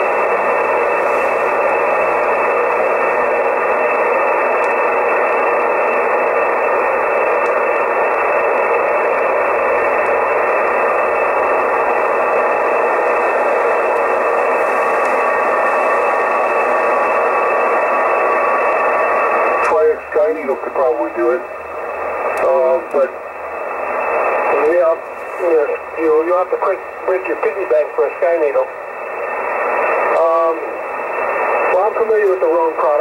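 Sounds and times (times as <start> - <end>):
shortwave radio hiss: 0.0 - 33.0.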